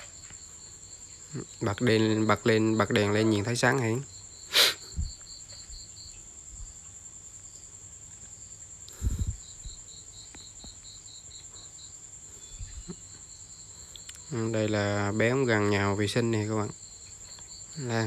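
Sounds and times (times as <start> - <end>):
continuous high whine: 0.0 - 18.0
cricket chirping: 0.0 - 18.0.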